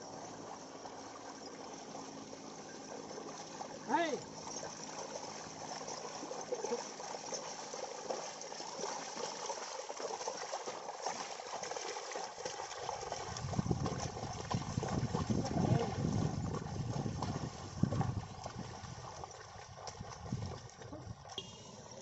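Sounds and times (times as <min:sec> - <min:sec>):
hooves splashing through water: 0:00.0 - 0:22.0
water and mud sloshing: 0:00.0 - 0:22.0.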